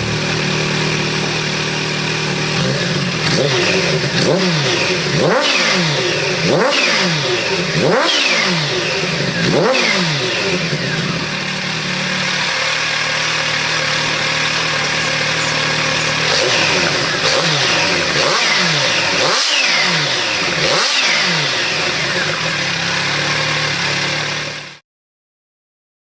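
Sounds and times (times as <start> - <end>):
motorcycle engine idling and revving: 0.0 - 24.8.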